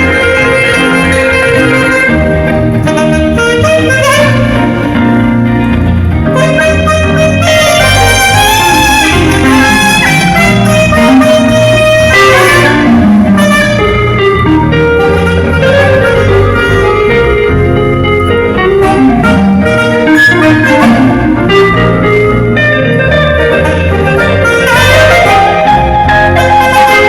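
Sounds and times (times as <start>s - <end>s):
backing track with bass line: 0.0s - 27.0s
saxophone playing a melody: 0.0s - 27.0s.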